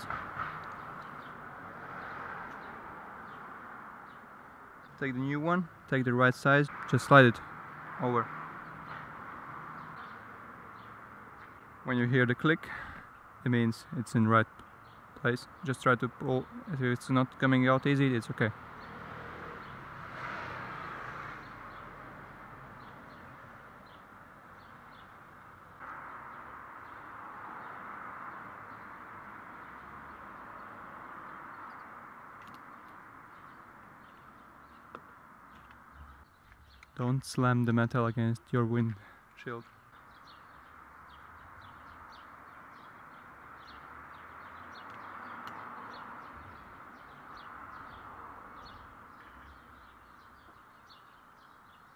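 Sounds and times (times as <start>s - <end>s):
small birds chirping: 0.0s - 20.0s, 20.7s - 51.9s
outdoor background hiss: 0.0s - 51.9s.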